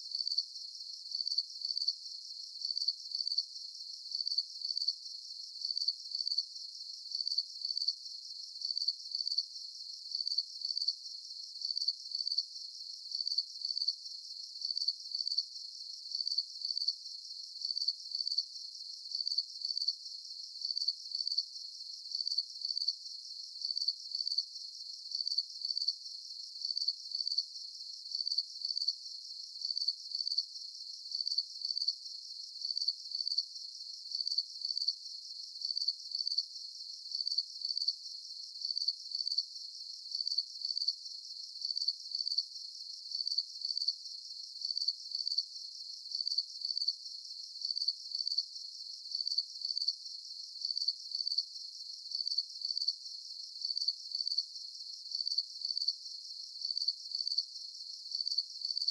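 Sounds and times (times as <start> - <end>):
crickets chirping: 0.1 - 58.9.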